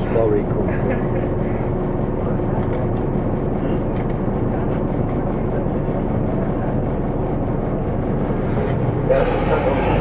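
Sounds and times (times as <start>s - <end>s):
bus engine humming: 0.0s - 10.0s.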